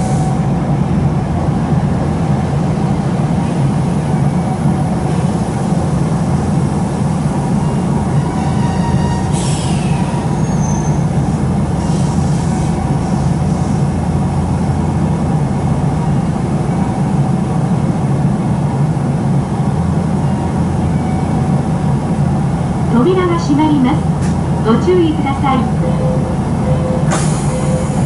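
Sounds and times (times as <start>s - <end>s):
train rumble and hum: 0.0s - 28.0s.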